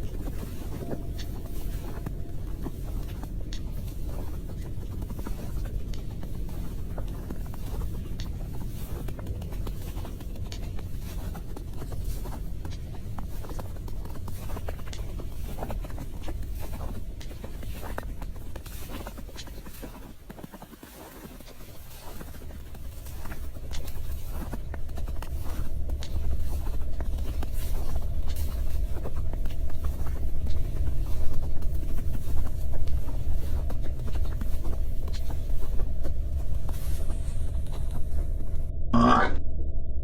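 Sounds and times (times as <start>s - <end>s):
low wind rumble on microphone: 0.0s - 40.0s.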